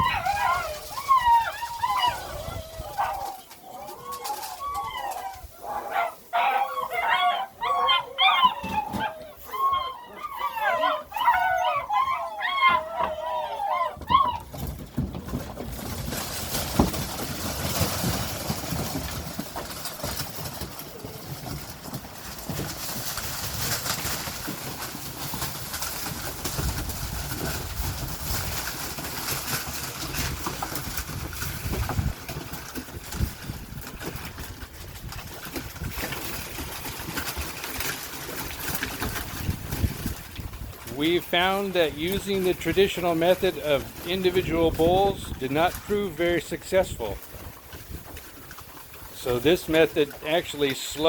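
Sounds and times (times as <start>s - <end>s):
puppies eating from a pan: 0.0s - 51.0s.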